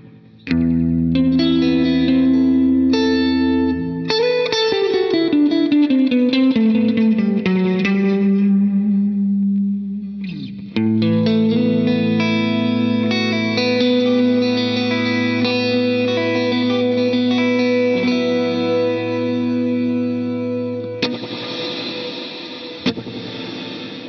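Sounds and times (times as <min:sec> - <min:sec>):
electric guitar chords with reverb: 0:00.0 - 0:24.0.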